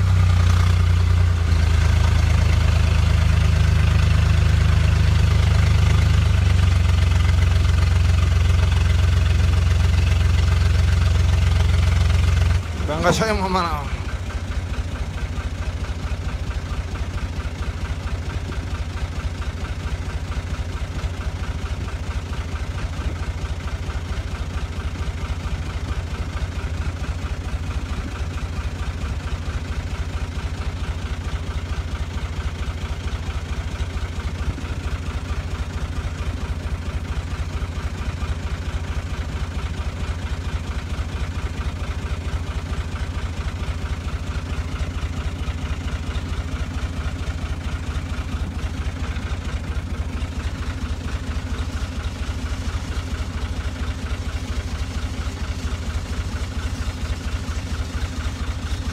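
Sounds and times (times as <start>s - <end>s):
backhoe loader diesel engine running: 0.0s - 58.9s
tractor engine running: 0.0s - 58.9s.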